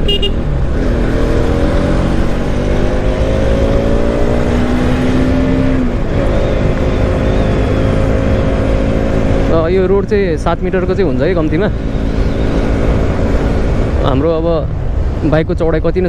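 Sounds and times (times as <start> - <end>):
motorcycle engine accelerating: 0.0 - 14.4
wind rush: 0.5 - 16.0.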